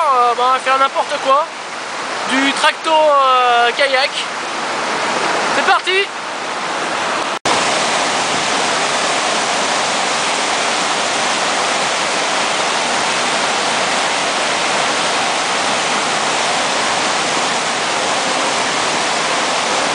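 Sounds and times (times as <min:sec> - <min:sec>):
fast-flowing river water: 0:00.0 - 0:19.9.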